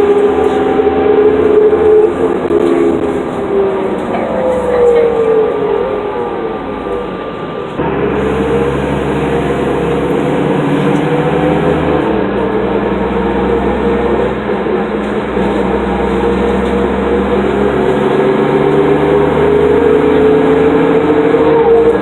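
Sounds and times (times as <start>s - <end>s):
bus diesel engine droning: 0.0s - 22.0s
transmission whine: 0.0s - 22.0s.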